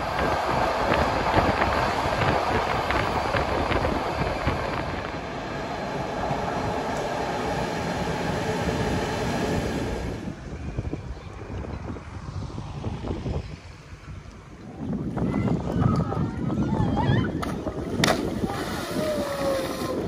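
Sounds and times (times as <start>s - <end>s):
train rumbling on rails: 0.0s - 16.7s.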